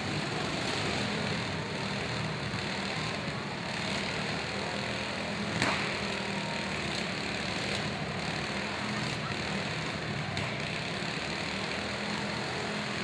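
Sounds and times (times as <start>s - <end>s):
riding lawn mower engines running: 0.0s - 13.0s.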